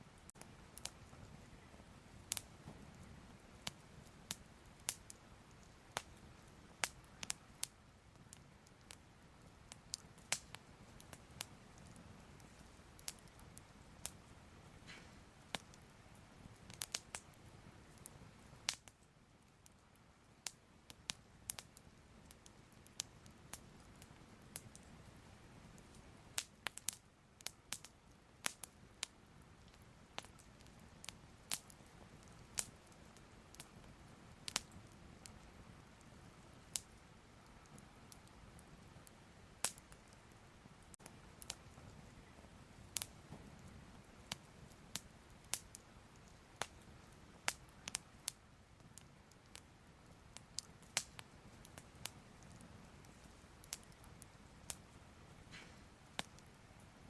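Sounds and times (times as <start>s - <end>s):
faint steady hiss: 0.0s - 57.0s
fire crackling and popping: 0.0s - 57.0s.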